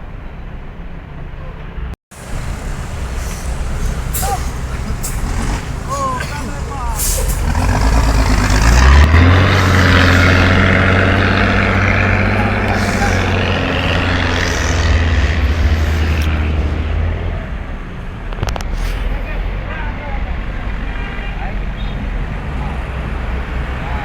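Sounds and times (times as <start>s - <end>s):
bus diesel engine droning: 2.1s - 24.0s.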